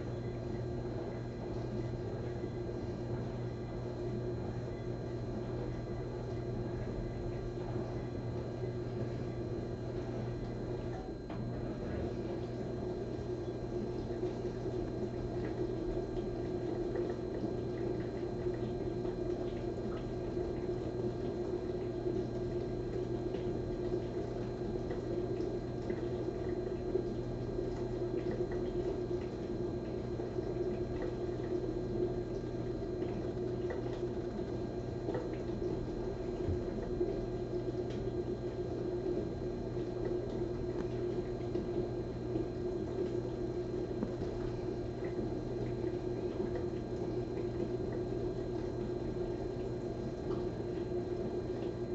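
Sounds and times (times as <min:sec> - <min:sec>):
low electrical hum: 0:00.0 - 0:51.9.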